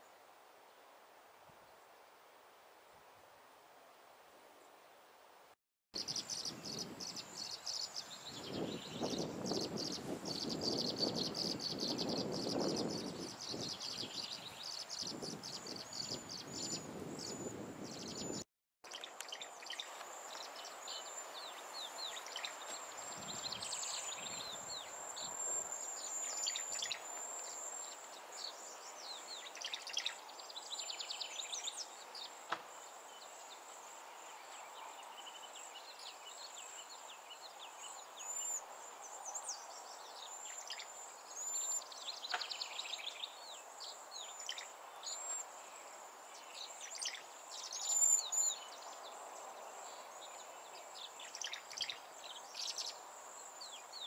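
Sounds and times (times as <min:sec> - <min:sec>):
outdoor background noise: 0:00.0 - 0:54.0
songbirds chirping: 0:06.0 - 0:54.0.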